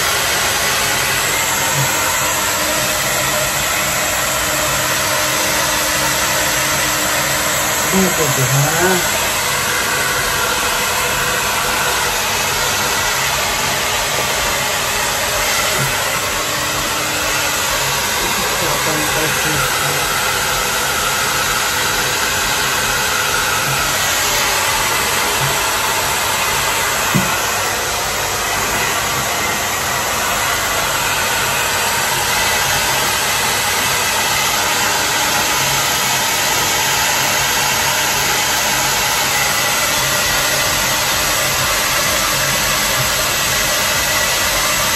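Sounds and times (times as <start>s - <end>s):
hair dryer blowing: 0.0s - 44.9s.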